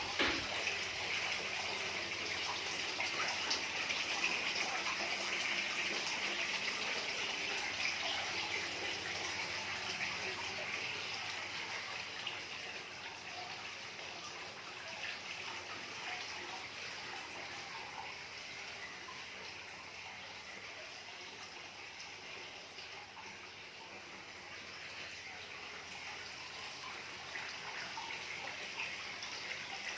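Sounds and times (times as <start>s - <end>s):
running water splashing: 0.0s - 29.9s.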